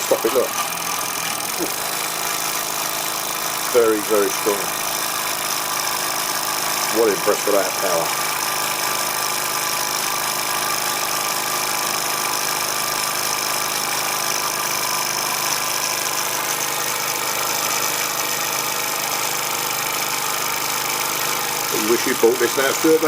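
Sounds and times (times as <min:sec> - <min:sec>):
model steam engine hissing: 0:00.0 - 0:23.0.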